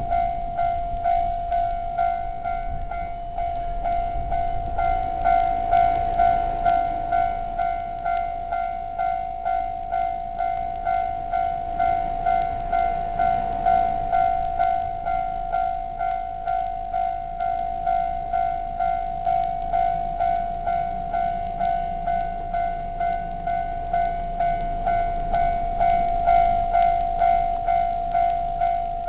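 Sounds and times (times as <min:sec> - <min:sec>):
level crossing bell ringing: 0:00.0 - 0:29.0
low rumble: 0:00.0 - 0:29.0.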